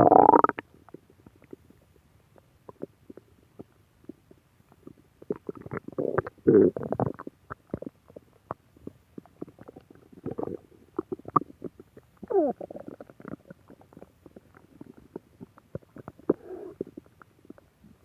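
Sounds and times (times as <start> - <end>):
stomach growling: 0.0 - 1.8, 2.7 - 18.0.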